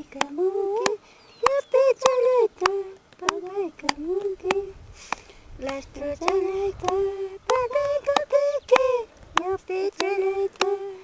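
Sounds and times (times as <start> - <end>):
women singing: 0.0 - 4.8, 5.6 - 11.0
sharp taps keeping time: 0.2 - 10.8.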